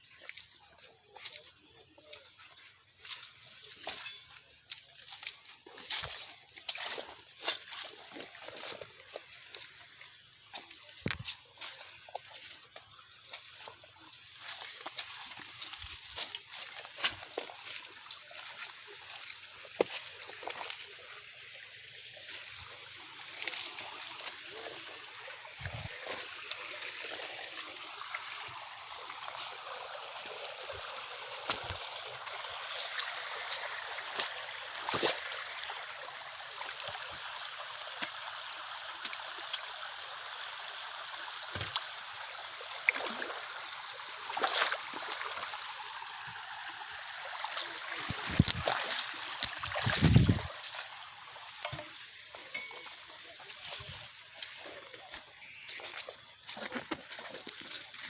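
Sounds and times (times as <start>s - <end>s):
small splashes and knocks: 0.0s - 40.0s, 40.8s - 58.0s
floodwater running and trickling: 0.0s - 58.0s.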